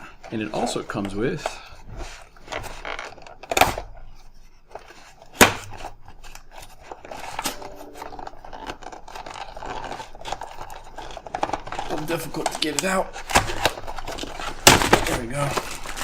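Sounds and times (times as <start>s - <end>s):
packaging scraping and rustling: 0.0s - 16.0s.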